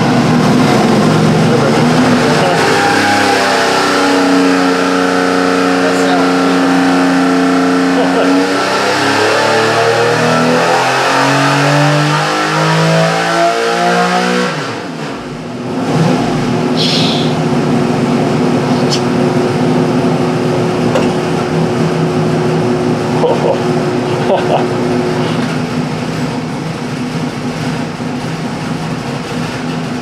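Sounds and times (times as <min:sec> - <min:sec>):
race engine revving at full throttle: 0:00.0 - 0:30.0.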